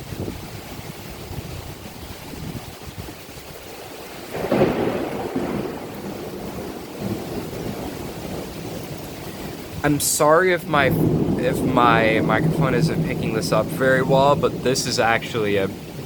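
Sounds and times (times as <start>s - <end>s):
rain falling: 0.0s - 16.0s
thunder rumbling: 0.0s - 16.0s.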